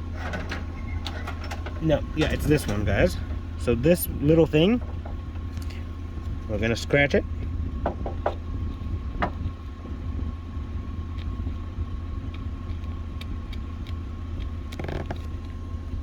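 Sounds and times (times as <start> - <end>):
faint steady hum: 0.0 - 16.0
low background rumble: 0.0 - 16.0.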